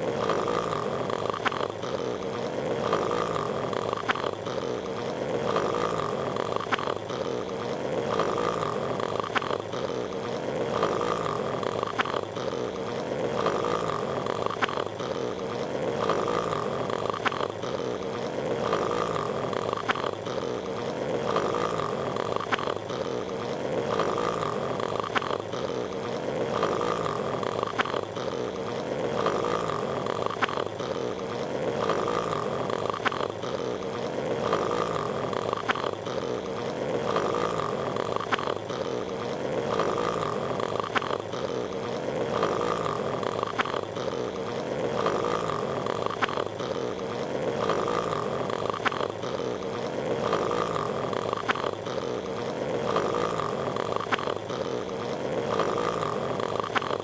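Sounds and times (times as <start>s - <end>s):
cartoon snoring with whistle: 0.0s - 57.0s.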